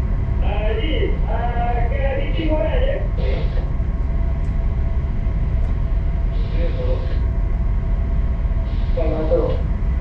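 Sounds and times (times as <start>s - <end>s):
faint hum: 0.0s - 10.0s
ship engine rumble: 0.0s - 10.0s.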